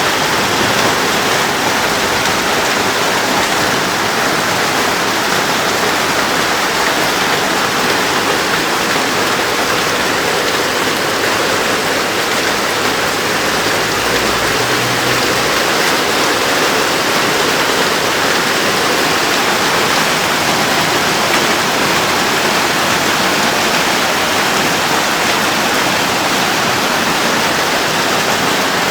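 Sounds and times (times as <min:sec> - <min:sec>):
torrential rain pouring: 0:00.0 - 0:28.9.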